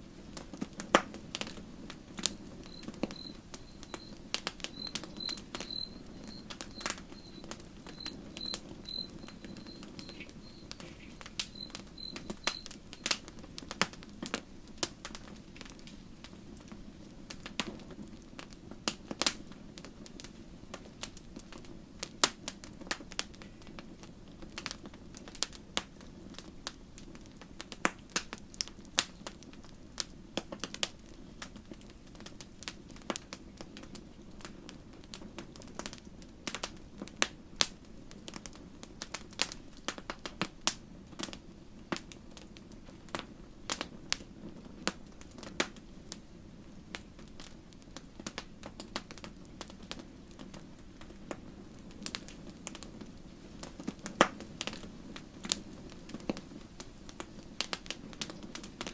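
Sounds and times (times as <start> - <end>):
low rumble of flame: 0.0 - 58.9
wood fire crackling and popping: 0.0 - 58.9.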